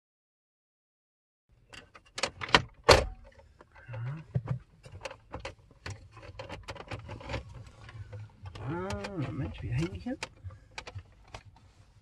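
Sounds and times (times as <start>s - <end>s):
plastic panel creaking and clicking: 1.7s - 11.6s.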